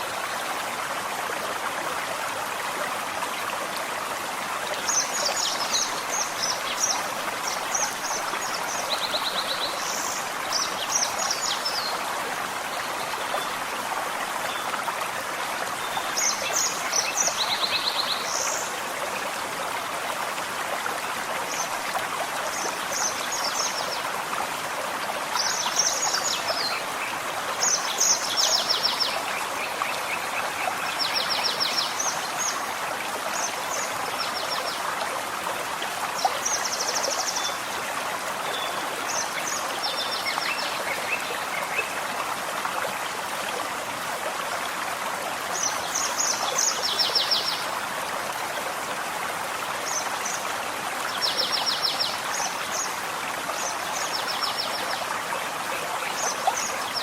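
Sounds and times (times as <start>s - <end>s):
forest stream running: 0.0s - 57.0s.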